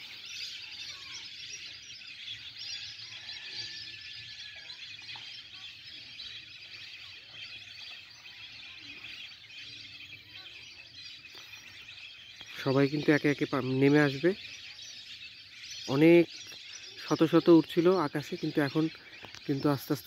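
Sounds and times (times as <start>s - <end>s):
flock of waterbirds calling: 0.0s - 20.0s.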